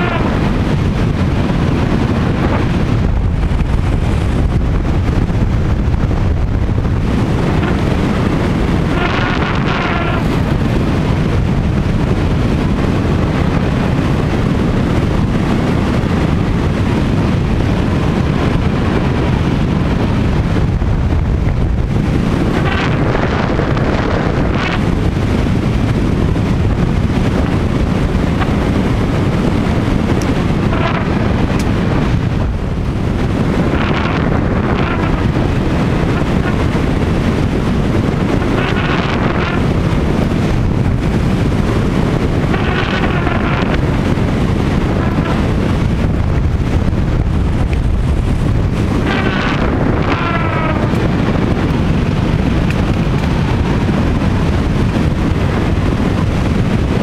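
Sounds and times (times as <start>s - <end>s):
glider sail vibrating buzz: 0.0s - 57.0s
wind rushing over microphone: 0.0s - 57.0s.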